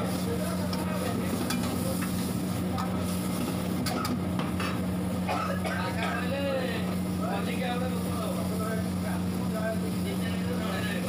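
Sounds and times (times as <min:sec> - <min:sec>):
steady low hum: 0:00.0 - 0:11.0
vegetables sizzling in a wok: 0:00.0 - 0:11.0.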